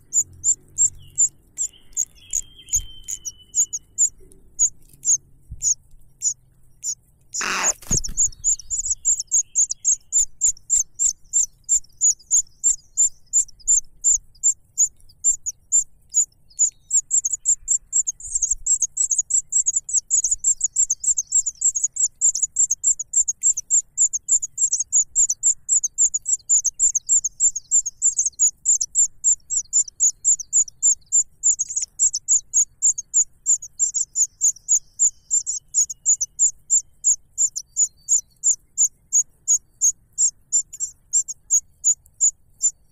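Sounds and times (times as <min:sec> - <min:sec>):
nestlings chirping: 0:00.0 - 0:42.9.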